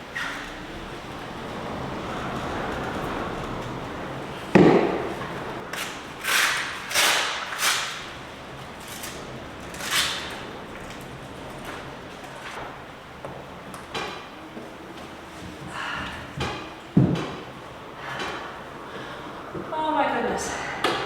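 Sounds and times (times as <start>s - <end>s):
gusting wind: 0.0s - 21.0s.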